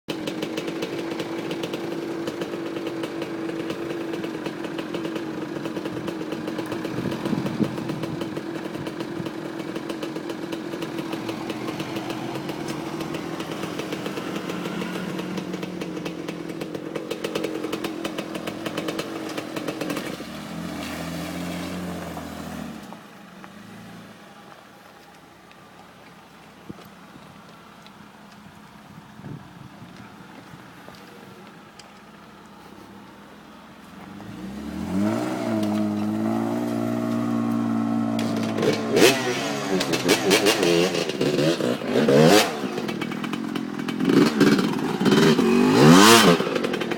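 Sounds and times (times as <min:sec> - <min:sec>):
off-road vehicle engine running: 0:00.1 - 0:46.9.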